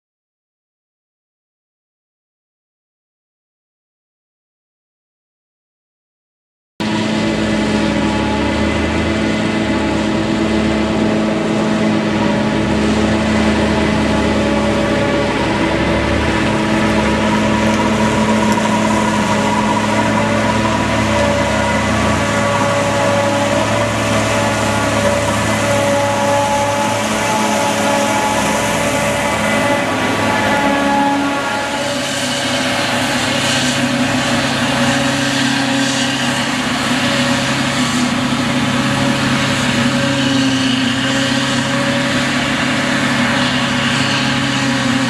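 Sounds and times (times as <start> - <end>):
harvester engine drone: 6.8 - 45.0.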